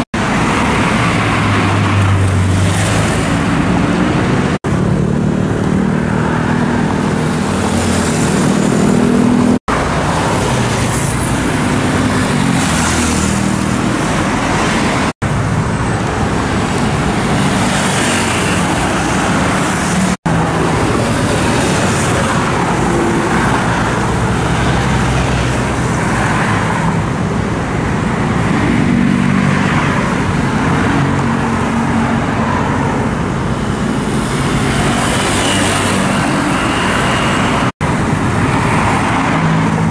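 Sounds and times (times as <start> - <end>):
car engines: 0.0 - 39.9
motorcycle engines: 0.0 - 39.9
truck engines: 0.0 - 39.9
vehicles passing: 0.0 - 39.9.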